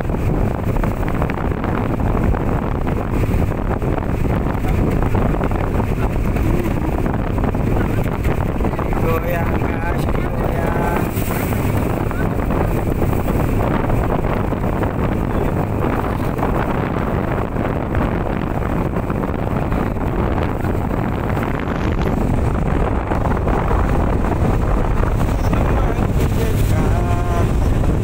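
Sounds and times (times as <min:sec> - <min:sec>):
motorboat running: 0:00.0 - 0:28.0
wind rushing over microphone: 0:00.0 - 0:28.0.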